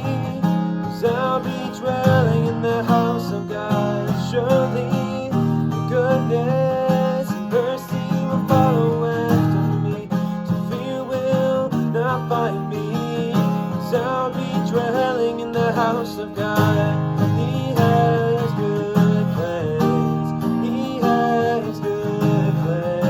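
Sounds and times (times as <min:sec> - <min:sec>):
acoustic guitar strumming: 0:00.0 - 0:23.0
wordless singing: 0:00.0 - 0:23.0.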